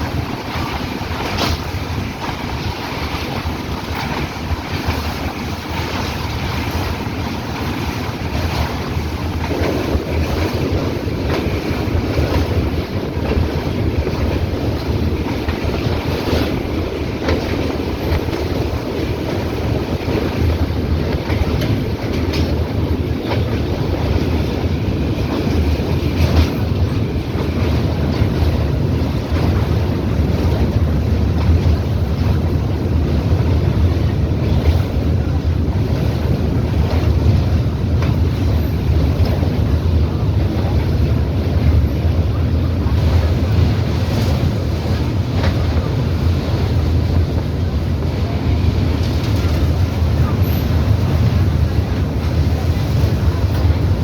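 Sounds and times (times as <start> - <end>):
train rumbling and rattling: 0.0 - 54.0
wind buffeting microphone: 0.0 - 54.0.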